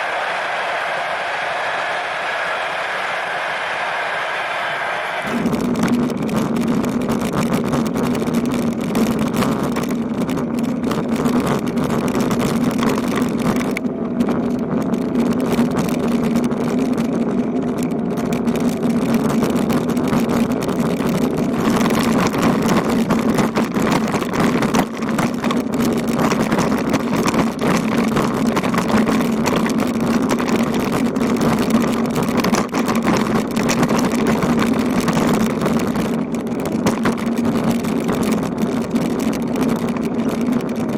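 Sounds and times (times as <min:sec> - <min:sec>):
constant low hum: 0:00.0 - 0:40.9
wind rush on microphone: 0:03.5 - 0:40.9.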